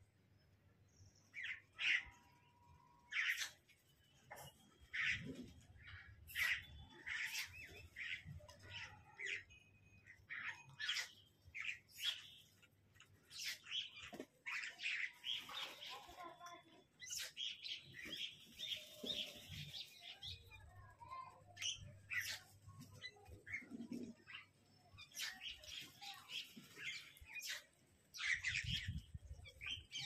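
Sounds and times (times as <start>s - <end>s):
birds chirping: 0.9s - 30.0s.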